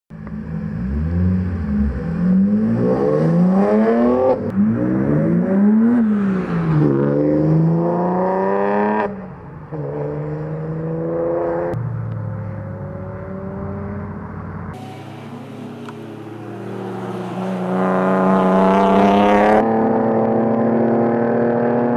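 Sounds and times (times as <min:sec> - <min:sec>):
car engine accelerating hard: 0:00.2 - 0:21.9.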